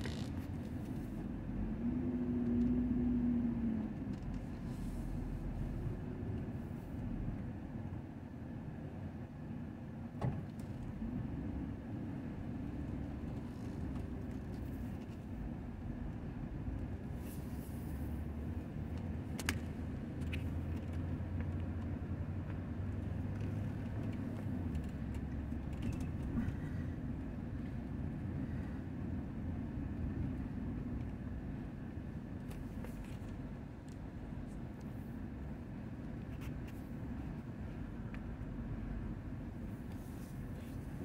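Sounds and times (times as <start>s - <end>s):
vehicle engine and road rumble: 0.0s - 41.0s.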